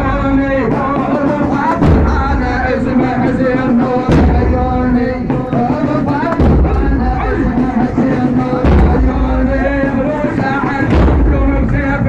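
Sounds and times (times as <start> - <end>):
heavy thuds: 0.0 - 12.0
man chanting melodically: 0.0 - 12.0
deep bass: 1.8 - 12.0.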